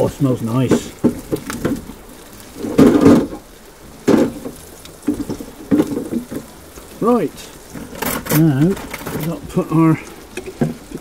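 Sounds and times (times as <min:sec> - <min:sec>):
wooden spoon scraping frying pan: 0:00.7 - 0:11.0.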